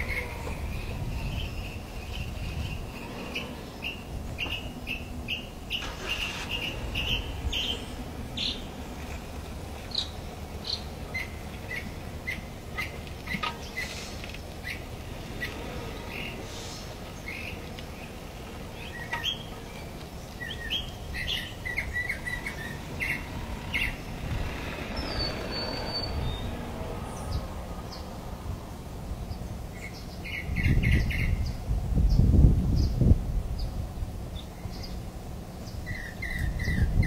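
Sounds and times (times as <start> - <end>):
birds chirping and calling: 0.0 - 28.4, 29.2 - 33.0, 33.6 - 37.0
steady low rumble: 0.0 - 37.0.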